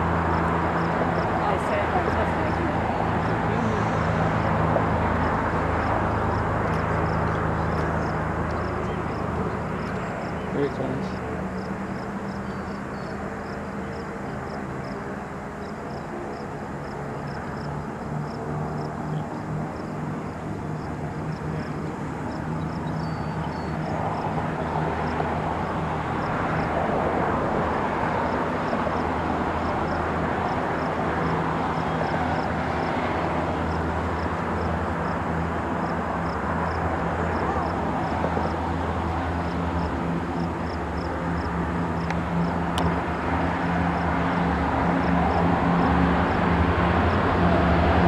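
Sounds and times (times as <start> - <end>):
radial aircraft engines at high power: 0.0 - 48.0.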